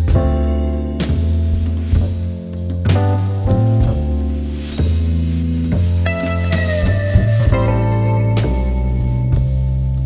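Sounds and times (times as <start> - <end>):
instrumental music with bass and drums: 0.0 - 10.0.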